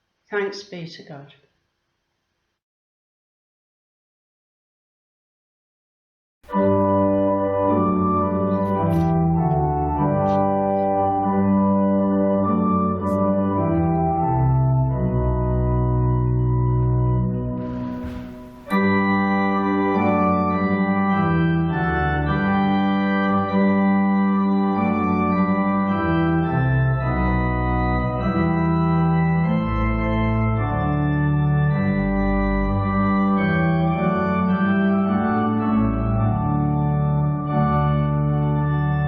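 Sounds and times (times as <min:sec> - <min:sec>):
organ playing sustained chords: 0:06.5 - 0:39.0.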